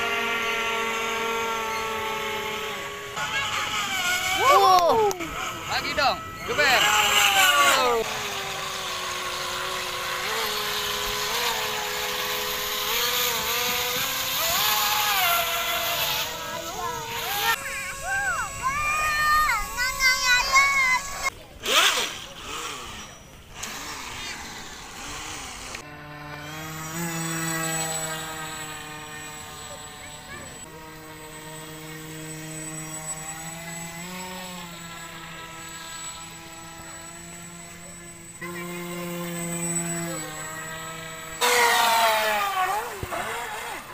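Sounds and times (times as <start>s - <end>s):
model boat motors whining: 0.0s - 43.9s.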